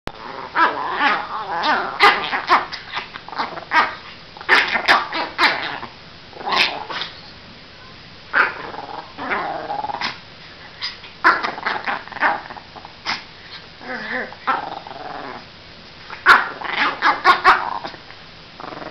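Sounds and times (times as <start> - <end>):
small dog growling and snarling barks: 0.2 - 7.3, 8.3 - 18.9.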